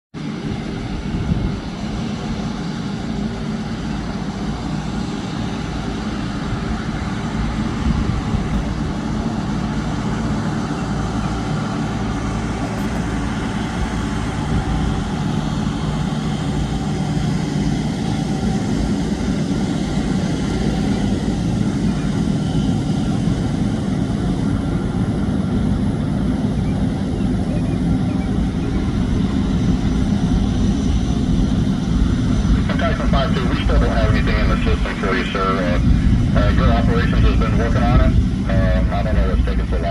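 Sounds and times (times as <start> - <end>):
jet engine rumble: 0.2 - 39.9
thin jet whine: 2.1 - 24.6, 25.5 - 39.9.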